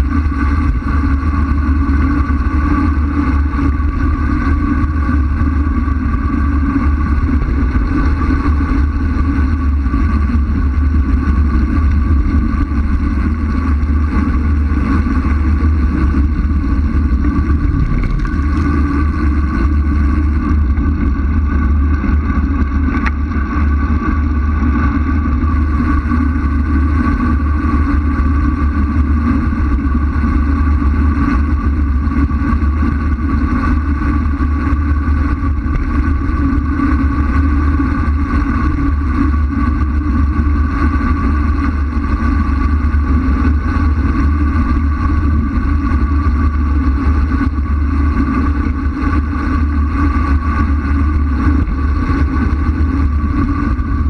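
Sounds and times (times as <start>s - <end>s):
steady hum: 0.0s - 54.0s
wind noise on microphone: 0.0s - 54.0s.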